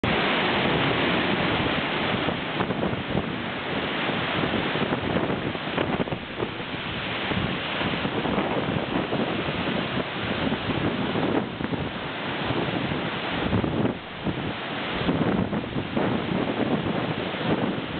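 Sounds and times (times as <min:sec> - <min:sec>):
waterfall crashing: 0:00.0 - 0:17.9.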